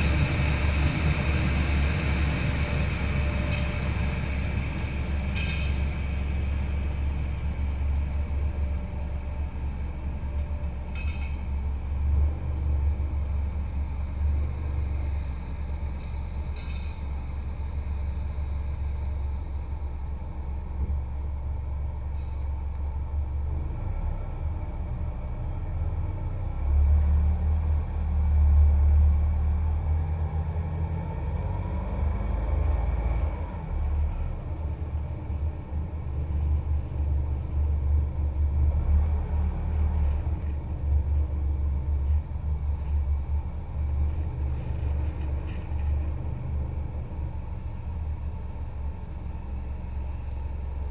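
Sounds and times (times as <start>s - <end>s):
vehicle rumble: 0.0s - 50.9s.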